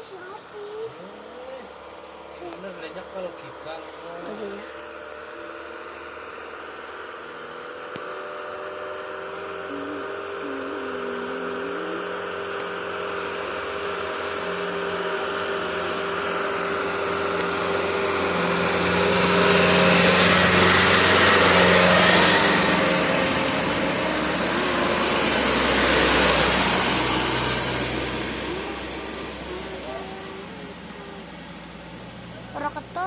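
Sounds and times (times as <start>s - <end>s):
truck diesel engine pulling hard: 0.0s - 33.0s.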